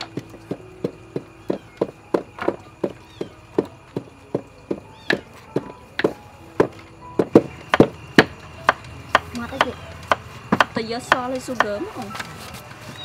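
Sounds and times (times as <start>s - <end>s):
pestle pounding in mortar: 0.0s - 11.8s
knives chopping on wooden boards: 0.0s - 12.3s.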